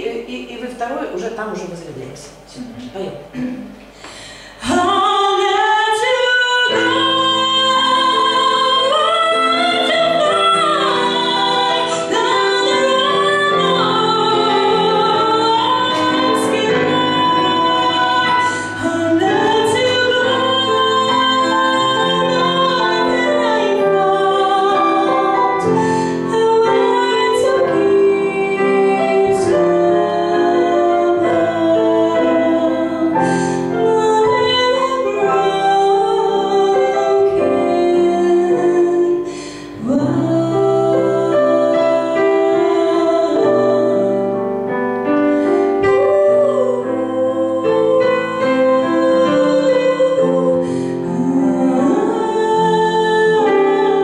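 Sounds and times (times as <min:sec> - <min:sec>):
digital piano chords: 0:02.3 - 0:54.0
woman singing slow song: 0:04.5 - 0:44.4, 0:45.4 - 0:54.0.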